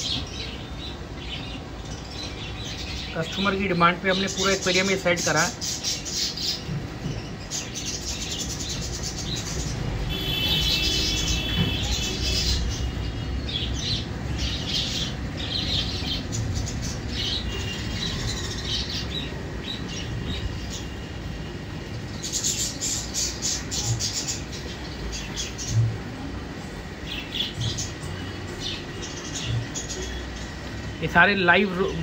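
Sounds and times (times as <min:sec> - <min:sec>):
small birds chirping: 0:00.0 - 0:32.0
steady low hum: 0:00.0 - 0:32.0.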